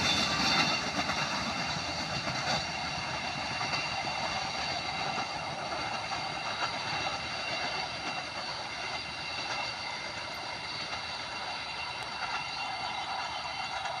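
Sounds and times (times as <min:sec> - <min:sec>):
train rolling on track: 0:00.0 - 0:14.0.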